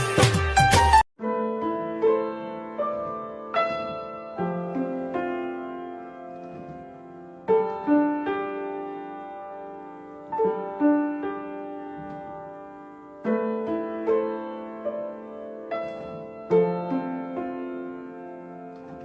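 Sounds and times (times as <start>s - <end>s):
slow gentle piano music: 0.6s - 19.0s.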